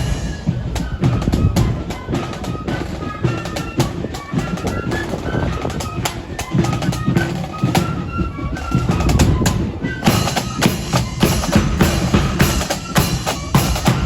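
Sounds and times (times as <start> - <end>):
accordion band playing: 0.0 - 14.0
bass drum and snare drums: 0.0 - 14.0.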